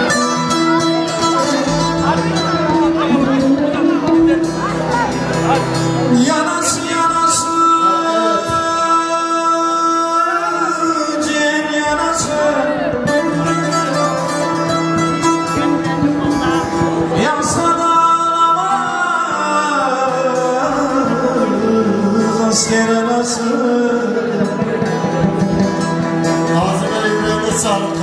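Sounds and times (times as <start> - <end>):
long held instrumental notes: 0.0 - 28.0
person singing: 0.0 - 28.0.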